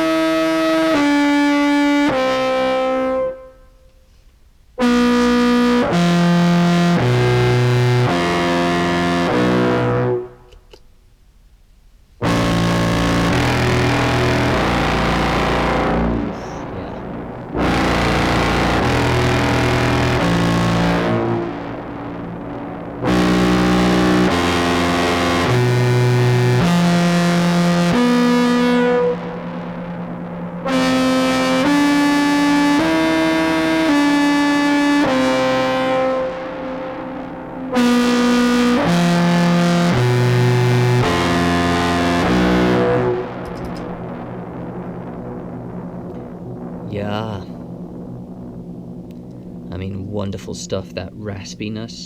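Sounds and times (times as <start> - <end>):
distorted contrabass clarinet notes: 0.0 - 10.8, 12.2 - 51.8.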